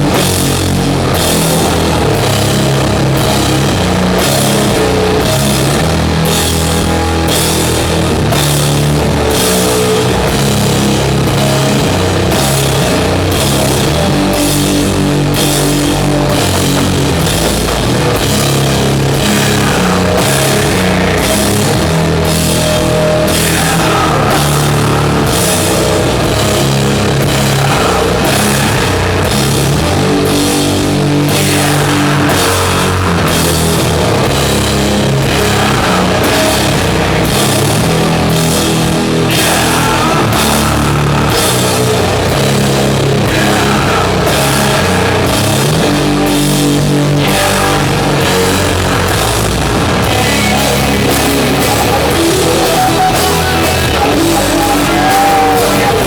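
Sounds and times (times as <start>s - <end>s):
distorted guitars and bass: 0.0s - 56.0s
drums: 0.0s - 56.0s.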